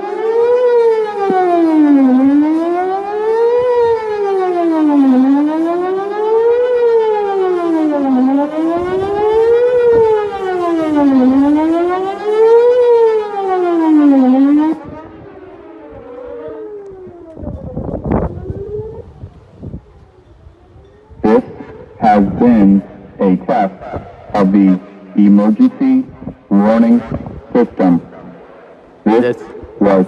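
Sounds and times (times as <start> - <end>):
distant siren wailing faintly: 0.0 - 30.0
warning siren wailing: 0.0 - 30.0.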